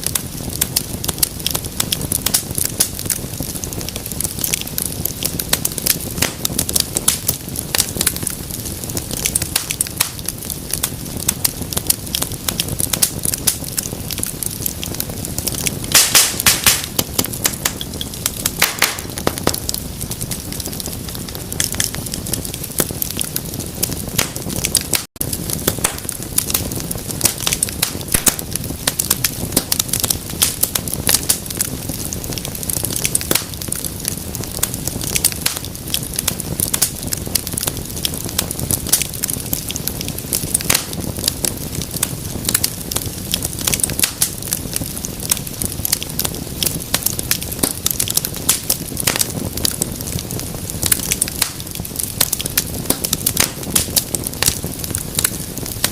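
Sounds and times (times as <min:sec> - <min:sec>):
flames rushing: 0:00.0 - 0:55.9
wood fire crackling: 0:00.0 - 0:55.9.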